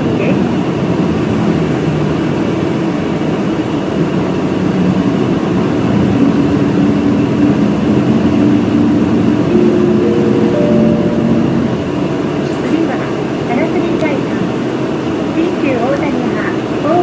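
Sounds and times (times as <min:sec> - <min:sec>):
bus engine accelerating: 0:00.0 - 0:17.0
road noise: 0:00.0 - 0:17.0.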